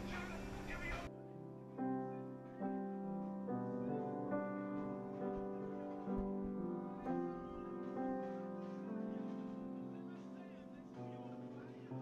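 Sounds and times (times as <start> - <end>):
background piano music: 0.0 - 12.0.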